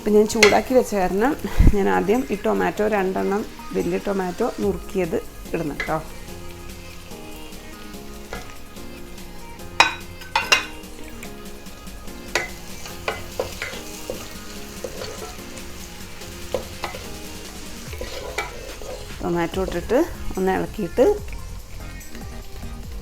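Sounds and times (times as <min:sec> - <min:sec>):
spoon knocking and scraping pan: 0:00.0 - 0:21.5
low sizzle: 0:00.0 - 0:23.0.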